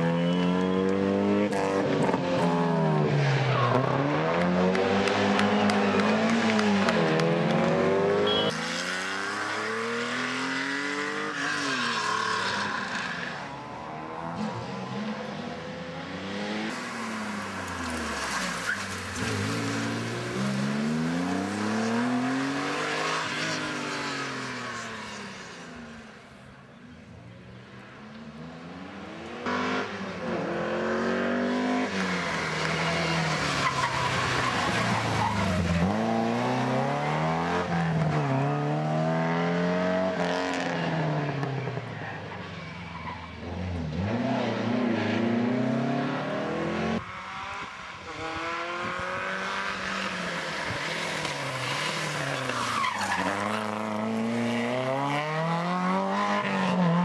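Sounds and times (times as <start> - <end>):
rally car engines revving: 0.0 - 26.4, 27.6 - 57.0.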